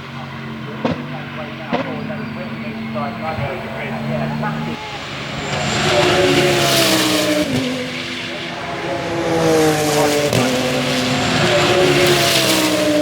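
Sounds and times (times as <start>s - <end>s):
gear changes: 0.0s - 13.0s
race car engine accelerating: 0.0s - 13.0s.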